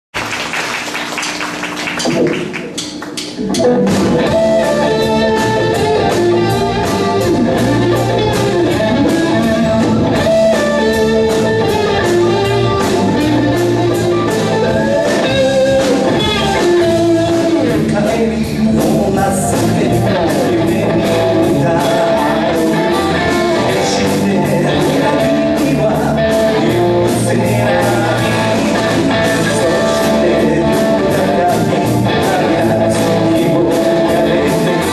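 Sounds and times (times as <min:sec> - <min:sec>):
band playing live: 0:00.2 - 0:34.9
electric guitar: 0:00.2 - 0:34.9.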